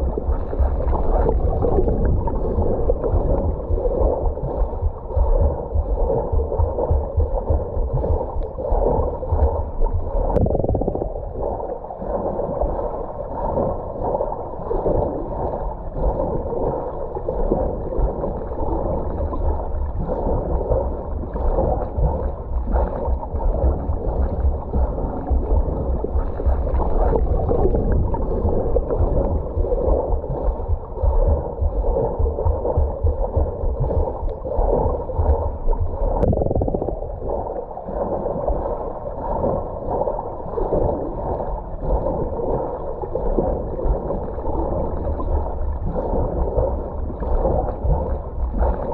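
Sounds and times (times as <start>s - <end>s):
underwater churning and gurgling: 0.0s - 48.9s.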